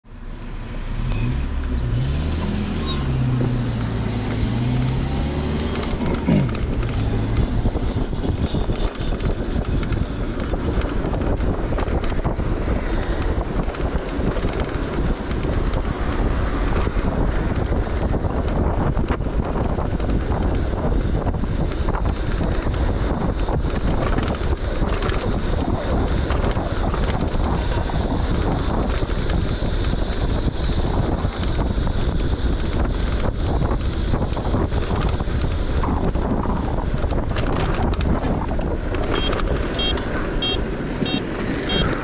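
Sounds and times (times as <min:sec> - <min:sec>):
car engine: 0:00.0 - 0:42.0
road and wind noise: 0:00.0 - 0:42.0.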